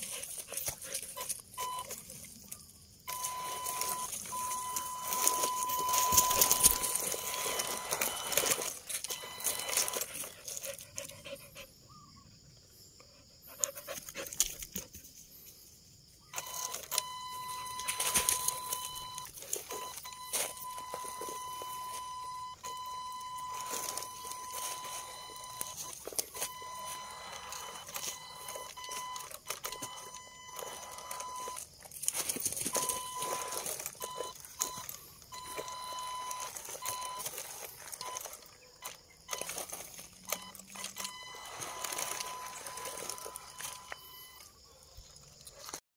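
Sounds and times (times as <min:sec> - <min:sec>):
tyres crackling over leaves and rock: 0:00.0 - 0:11.2, 0:16.3 - 0:45.8.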